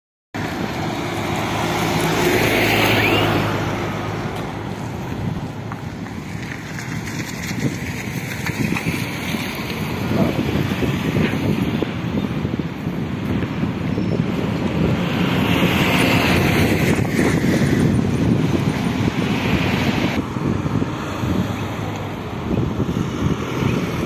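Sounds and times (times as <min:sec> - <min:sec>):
vehicle passing: 0:00.4 - 0:12.5, 0:14.3 - 0:24.0
traffic din: 0:00.4 - 0:24.0
wind buffeting microphone: 0:00.4 - 0:24.0.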